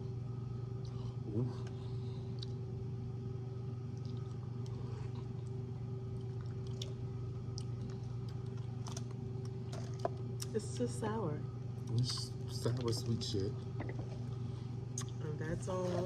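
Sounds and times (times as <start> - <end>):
steady low hum: 0.0 - 16.0
soft chewing with small clicks: 0.6 - 2.9, 3.5 - 10.9, 11.7 - 16.0.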